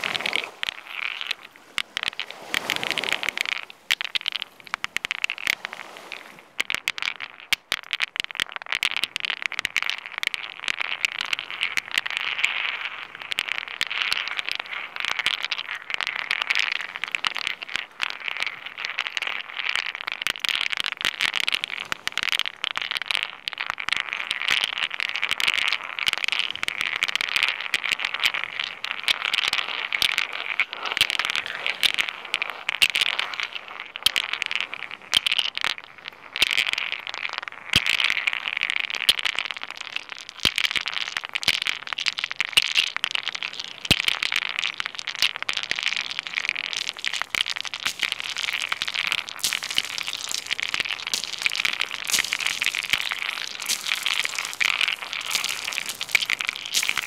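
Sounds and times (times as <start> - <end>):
pebbles scraping on rock: 0.0 - 57.0
stone on stone clicks: 0.0 - 57.0.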